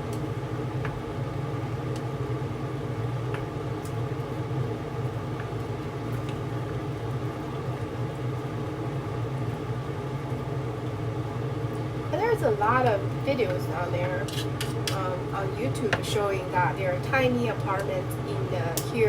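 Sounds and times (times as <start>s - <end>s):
range hood fan humming: 0.0s - 19.0s.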